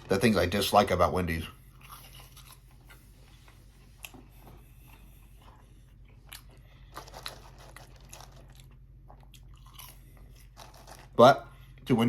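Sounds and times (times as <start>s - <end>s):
steady low hum: 0.0s - 12.0s
person chewing food: 1.6s - 11.8s.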